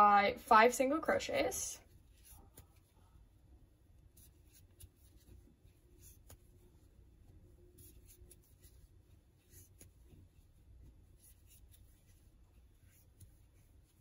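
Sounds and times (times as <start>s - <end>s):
crochet hook rubbing yarn: 1.8s - 14.0s.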